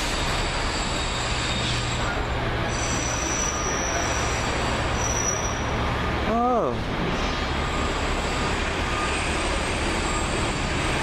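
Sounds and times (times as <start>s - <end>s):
high wheel squeal: 0.0s - 6.2s, 7.1s - 11.0s
train rumbling on rails: 0.0s - 11.0s.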